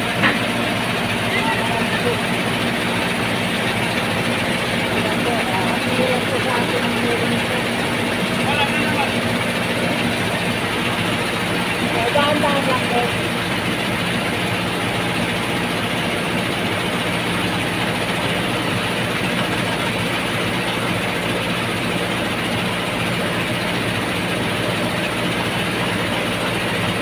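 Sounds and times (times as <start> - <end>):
rice mill machine drone: 0.0 - 27.0.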